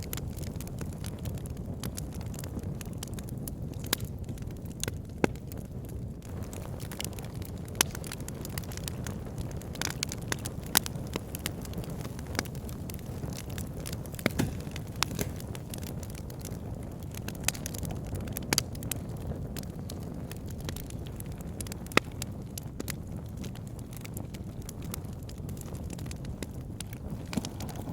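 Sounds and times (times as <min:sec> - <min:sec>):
burning logs crackling and popping: 0:00.0 - 0:27.9
low rumble of flames: 0:00.0 - 0:27.9.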